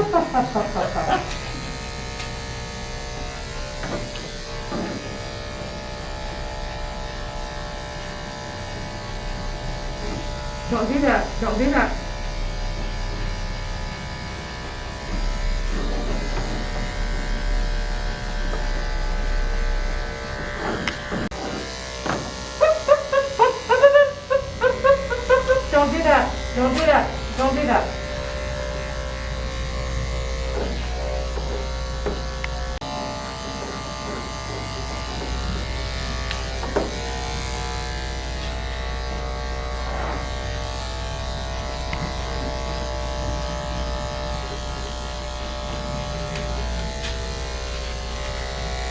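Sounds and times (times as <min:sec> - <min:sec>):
electric clippers buzzing: 0:00.0 - 0:48.9.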